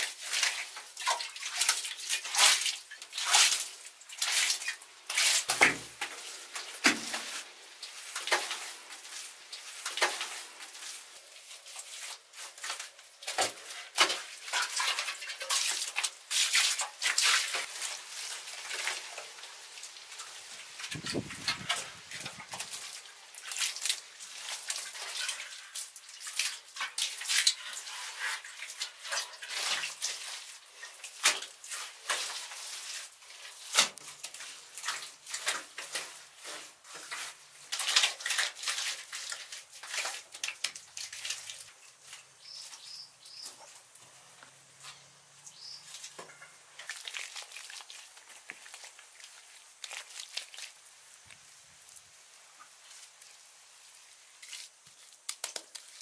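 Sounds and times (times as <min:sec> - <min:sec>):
wet mud scraping and slapping: 0:00.0 - 0:44.2, 0:44.9 - 0:53.3, 0:54.3 - 0:56.0.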